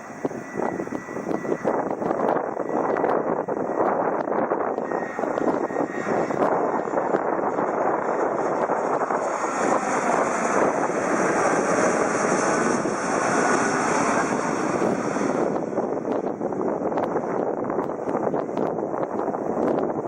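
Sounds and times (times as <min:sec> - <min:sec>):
jet airliner roaring overhead: 0:00.0 - 0:20.0.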